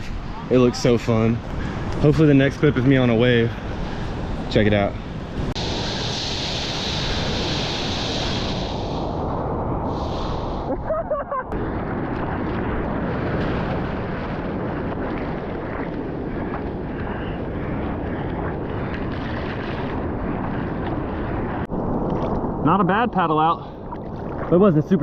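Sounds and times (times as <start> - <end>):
surf rushing: 0.0 - 25.0
wind buffeting microphone: 0.0 - 25.0.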